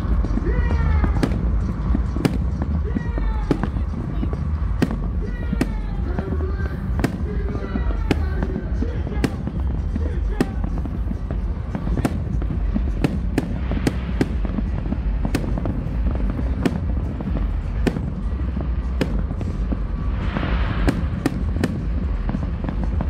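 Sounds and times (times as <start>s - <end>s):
firework bangs: 0.0s - 23.0s
firework hiss: 0.0s - 23.0s
steady low rumble: 0.0s - 23.0s.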